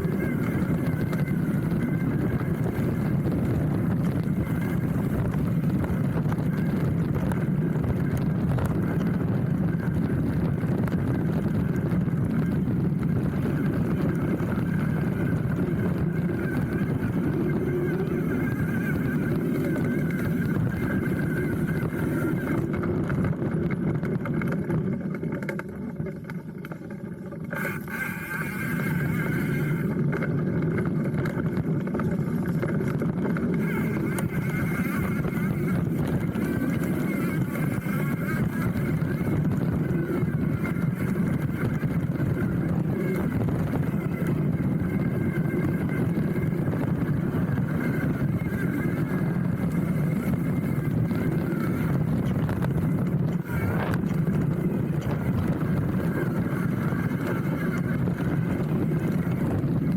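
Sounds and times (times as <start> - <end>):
bike rattling: 0.0 - 59.9
bike tyres rumbling on dirt: 0.0 - 59.9.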